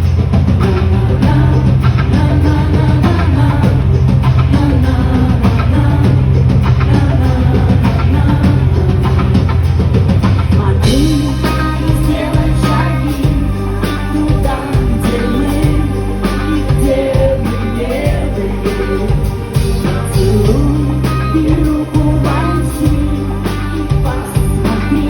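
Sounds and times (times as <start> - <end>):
band with bass and drums: 0.0 - 25.0
woman singing: 0.6 - 9.5, 10.4 - 25.0.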